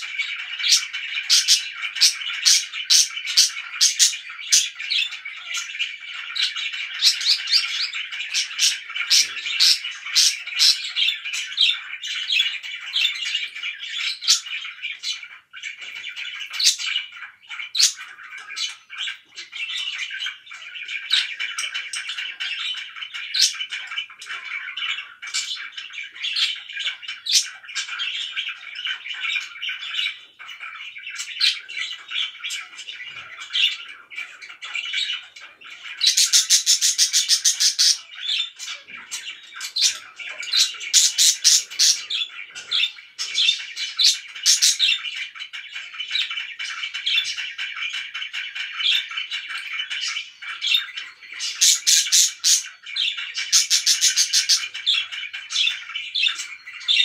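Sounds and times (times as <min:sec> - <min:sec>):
budgerigars chattering and warbling: 0:00.0 - 0:57.0
harsh rapid bird calls: 0:00.0 - 0:57.0.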